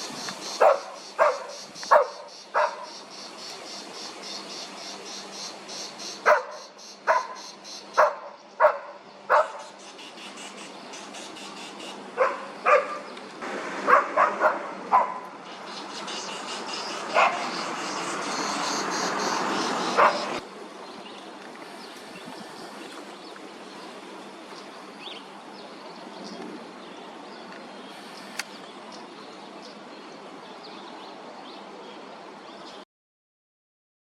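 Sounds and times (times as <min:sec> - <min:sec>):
outdoor background: 0:00.0 - 0:32.8.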